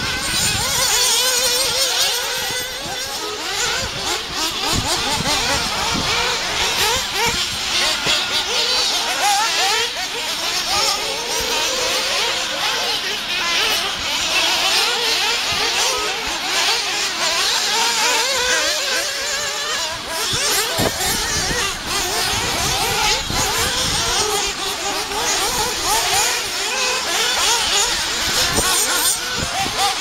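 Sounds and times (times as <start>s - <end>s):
rc buggy engines buzzing: 0.0s - 30.0s.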